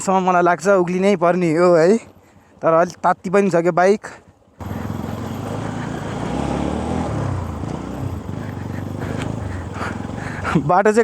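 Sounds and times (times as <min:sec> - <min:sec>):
motorcycle engine climbing: 0:00.0 - 0:11.0.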